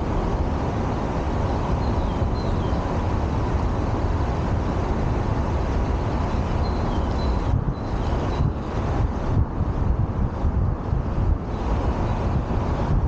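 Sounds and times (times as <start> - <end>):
traffic and road rumble: 0.0 - 13.0
wind buffeting microphone: 0.0 - 13.0.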